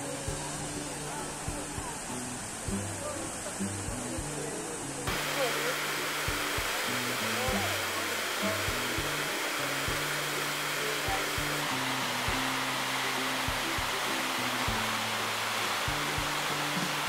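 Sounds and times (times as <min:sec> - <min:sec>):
background music with beat: 0:00.0 - 0:17.0
waterfall rushing: 0:00.0 - 0:17.0.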